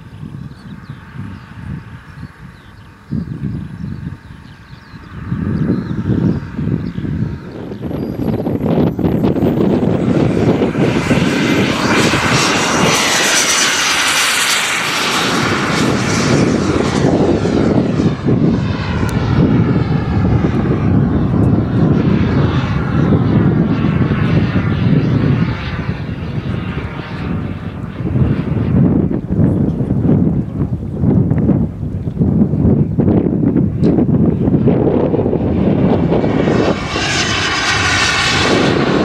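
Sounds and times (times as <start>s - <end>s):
high turbine whine: 0.0s - 39.0s
jet turbine roaring: 0.0s - 39.0s.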